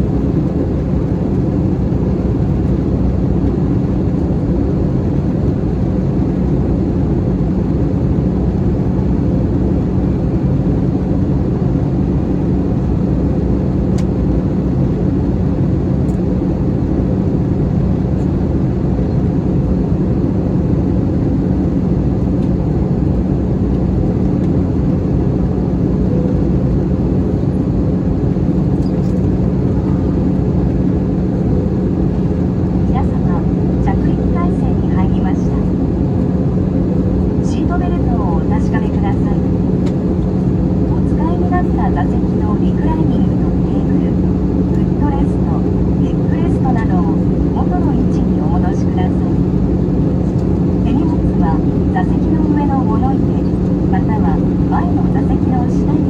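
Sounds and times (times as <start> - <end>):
airplane cabin rumble: 0.0 - 56.0
jet engine hum: 0.0 - 56.0.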